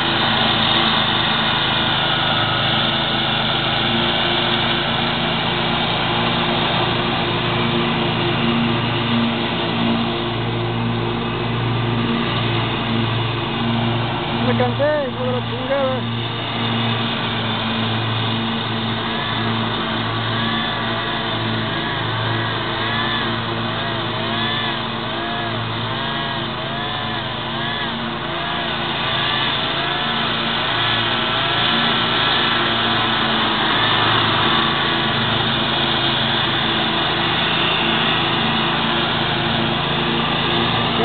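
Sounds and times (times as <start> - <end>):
riding lawn mower engine: 0.0 - 41.0.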